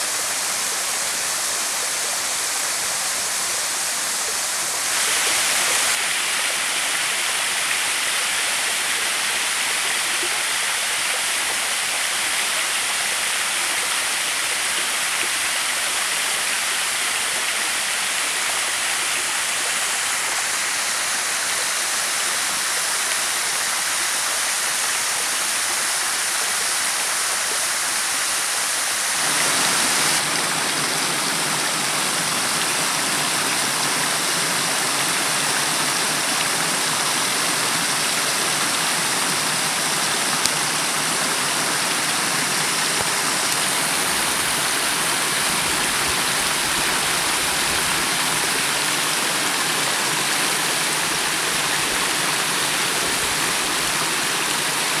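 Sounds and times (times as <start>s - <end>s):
water rushing over rock: 0.0s - 55.0s.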